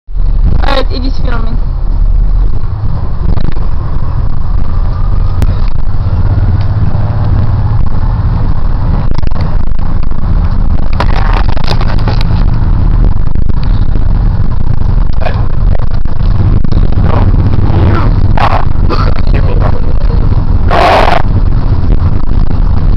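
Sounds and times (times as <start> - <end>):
bus engine rumble: 0.1 - 22.9
faint rising whine: 0.1 - 22.9.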